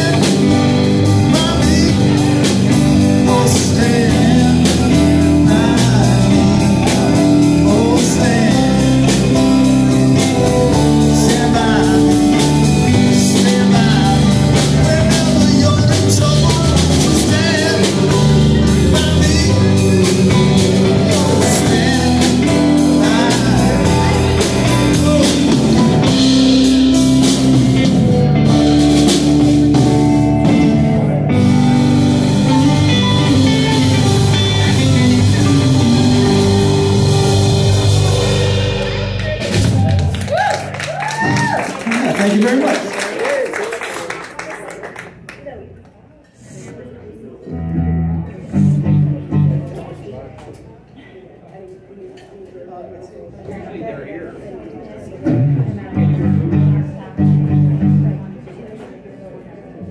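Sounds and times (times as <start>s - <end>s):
blues rock band playing: 0.0s - 43.0s, 47.5s - 50.0s, 55.3s - 58.3s.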